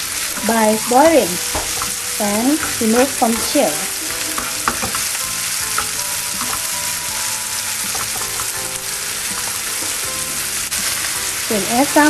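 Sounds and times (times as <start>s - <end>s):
clam meat sizzling in oil: 0.0s - 12.0s.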